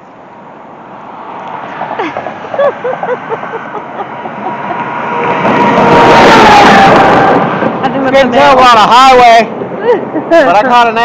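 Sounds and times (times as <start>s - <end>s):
vehicle approaching on road: 0.0s - 11.0s.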